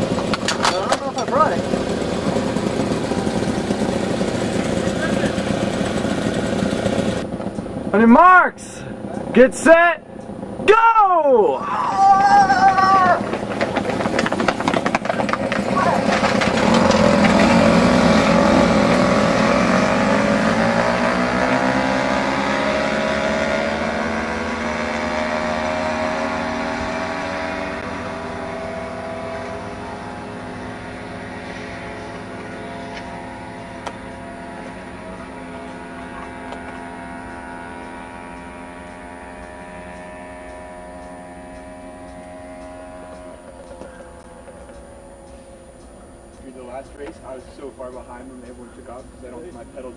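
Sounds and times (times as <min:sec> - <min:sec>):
mopeds racing away: 0:00.0 - 0:09.4, 0:10.0 - 0:49.9.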